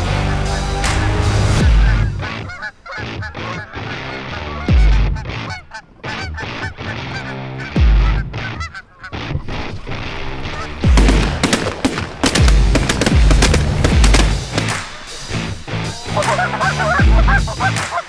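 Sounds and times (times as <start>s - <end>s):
background music with bass hits: 0.0s - 8.7s, 9.4s - 18.0s
geese honking: 0.0s - 18.0s.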